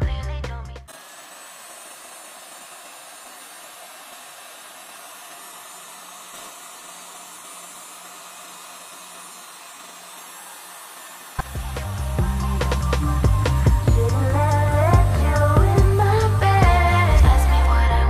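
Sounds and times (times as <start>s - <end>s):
heat gun blowing air: 0.8s - 17.5s.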